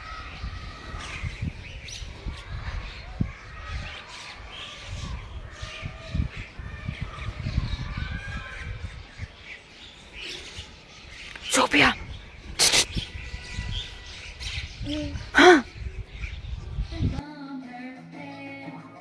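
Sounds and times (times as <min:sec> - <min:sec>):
flock of birds chirping: 0:00.0 - 0:17.2.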